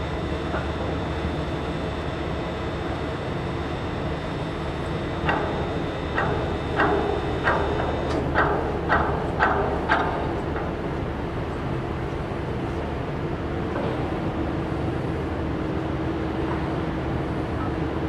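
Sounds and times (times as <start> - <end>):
ship engine low drone: 0.0 - 18.0.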